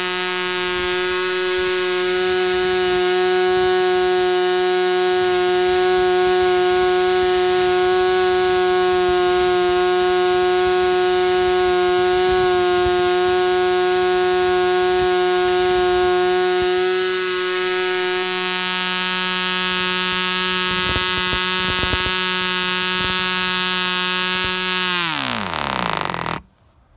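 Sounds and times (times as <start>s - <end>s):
model diesel engine buzzing: 0.0s - 26.5s.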